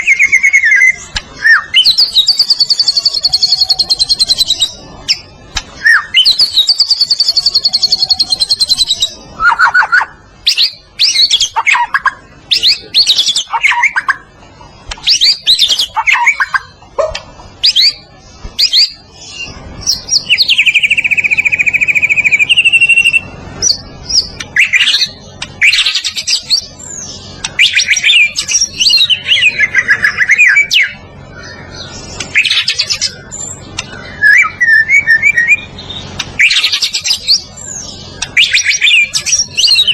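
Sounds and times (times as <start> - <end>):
bird singing whistles and trills: 0.0 - 14.3, 15.0 - 16.7, 17.6 - 39.9.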